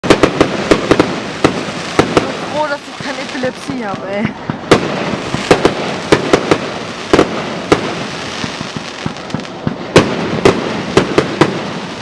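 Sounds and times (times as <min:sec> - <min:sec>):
background noise: 0:00.0 - 0:12.0
fireworks bangs: 0:00.0 - 0:12.0.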